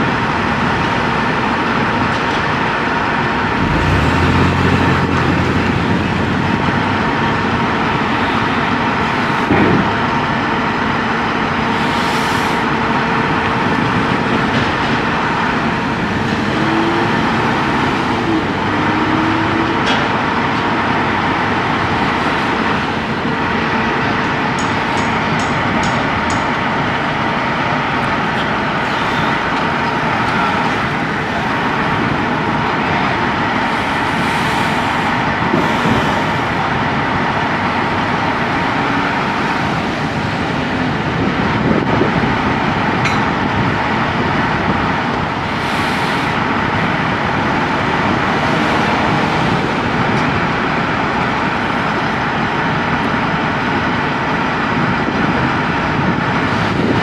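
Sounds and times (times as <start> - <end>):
heavy diesel engines droning: 0.0 - 57.0
street traffic: 0.0 - 57.0.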